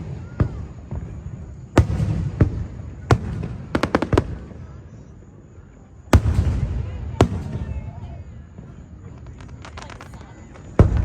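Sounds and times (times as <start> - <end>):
fireworks cracks: 0.0 - 4.8, 6.1 - 11.0
fireworks bursting with bangs: 0.0 - 11.0.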